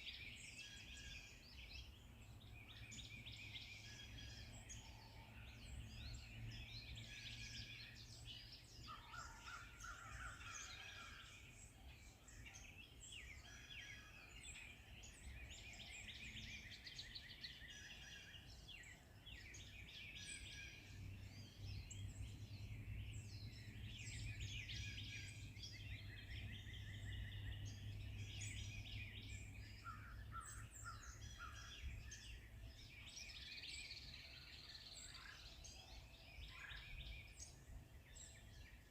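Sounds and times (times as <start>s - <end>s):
forest birds singing: 0.0s - 38.9s.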